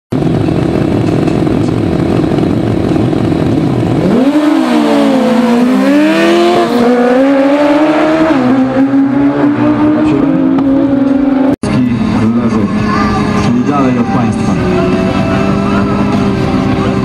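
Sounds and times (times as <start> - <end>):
motorcycle engines revving: 0.2 - 17.0
motorcycles accelerating hard: 0.2 - 17.0.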